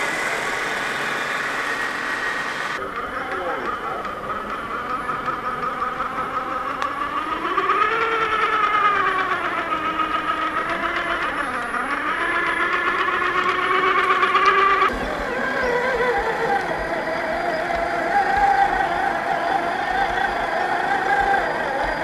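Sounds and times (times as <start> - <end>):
toy car electric motor whine: 0.0 - 22.0.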